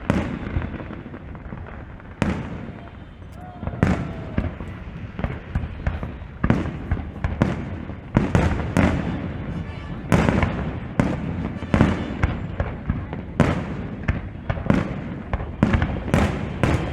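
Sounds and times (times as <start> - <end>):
fireworks bangs: 0.0 - 16.9
rumble of distant fireworks: 0.0 - 16.9.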